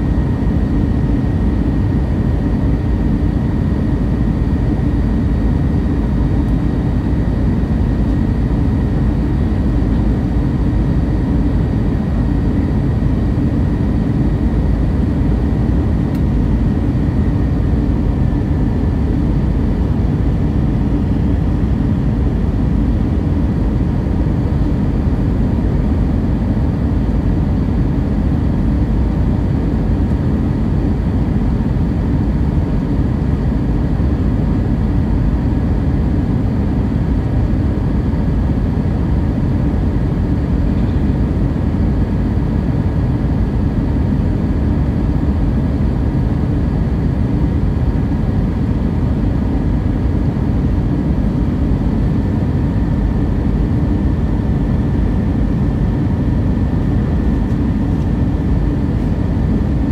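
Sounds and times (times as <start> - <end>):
jet engine and airflow rush: 0.0 - 59.9.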